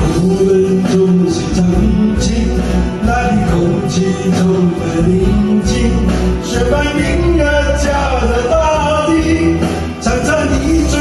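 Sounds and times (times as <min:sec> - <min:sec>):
man singing into a microphone: 0:00.0 - 0:11.0
pop backing track: 0:00.0 - 0:11.0.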